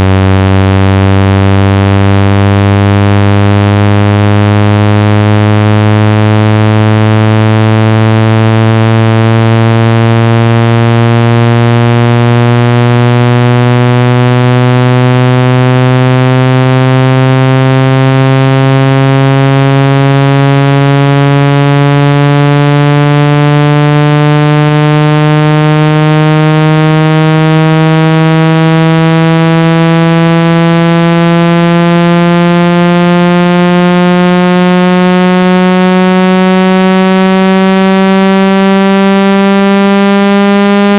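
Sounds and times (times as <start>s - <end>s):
electronic buzzing tone rising in pitch: 0.0s - 40.9s.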